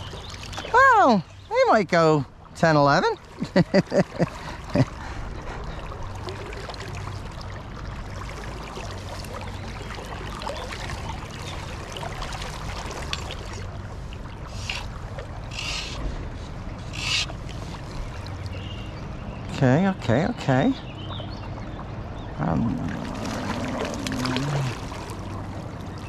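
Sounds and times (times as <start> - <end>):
water splashes: 0.0 - 19.2, 21.4 - 26.0
river water running: 0.0 - 26.0.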